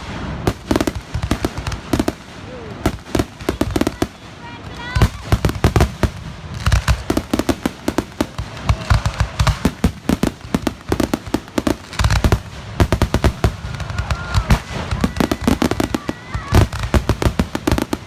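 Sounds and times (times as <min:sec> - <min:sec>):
fireworks bangs and booms: 0:00.0 - 0:18.0
fireworks whistling: 0:00.0 - 0:18.0.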